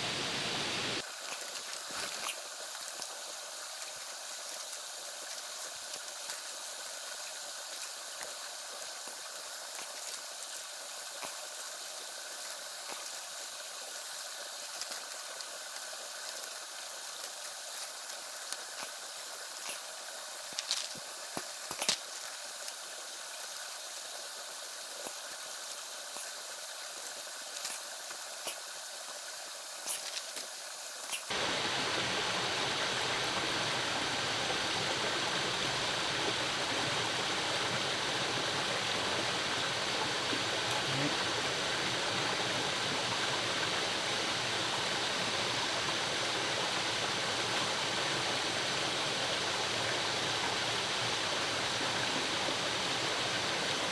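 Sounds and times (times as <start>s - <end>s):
running water rushing: 0.0s - 53.9s
steady high hiss: 0.0s - 53.9s.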